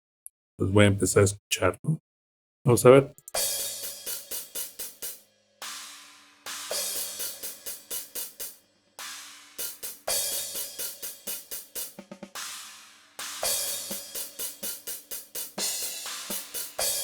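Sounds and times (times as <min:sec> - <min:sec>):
hi-hat strokes: 0:03.2 - 0:17.0
crash cymbal washes: 0:03.4 - 0:17.0.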